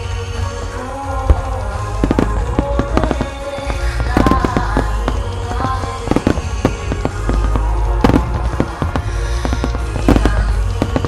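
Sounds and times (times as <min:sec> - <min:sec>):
fireworks bangs and crackles: 0:00.0 - 0:11.0
music with sustained notes: 0:00.0 - 0:11.0.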